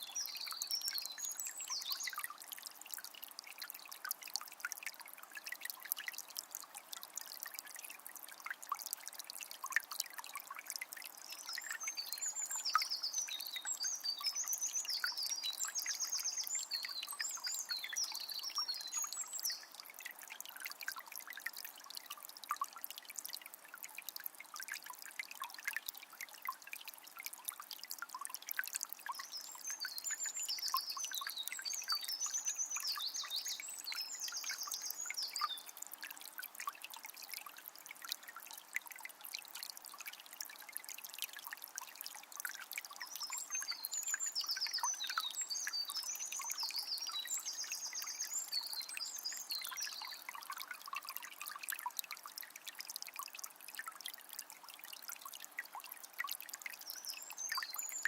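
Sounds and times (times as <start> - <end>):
spring water trickling: 0.0 - 58.0
water drips: 0.0 - 58.0.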